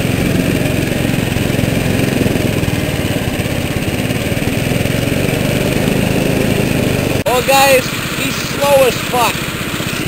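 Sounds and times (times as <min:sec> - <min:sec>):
garden tractor engine running: 0:00.0 - 0:10.0.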